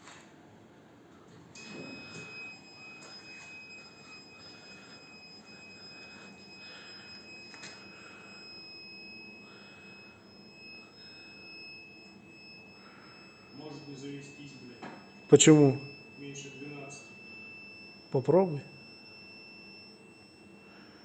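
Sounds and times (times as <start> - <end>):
high-pitched electronic warning buzzer: 1.6 - 21.0.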